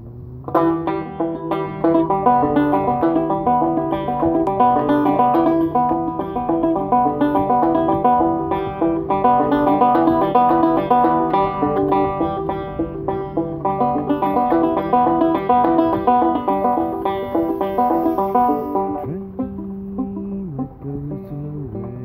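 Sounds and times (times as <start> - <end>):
zither banjo picking: 0.0 - 22.0.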